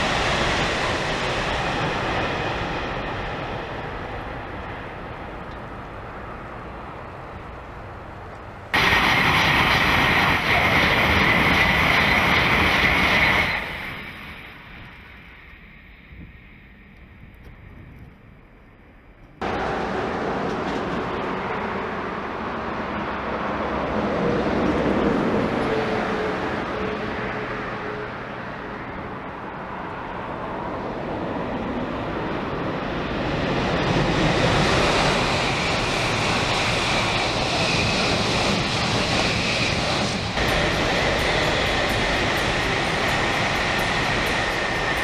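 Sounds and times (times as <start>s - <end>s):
high-speed trains passing: 0.0s - 45.0s.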